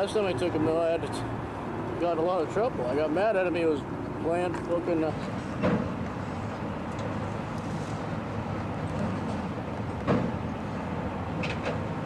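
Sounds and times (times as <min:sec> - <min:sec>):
heavy machinery engine humming: 0:00.0 - 0:12.0.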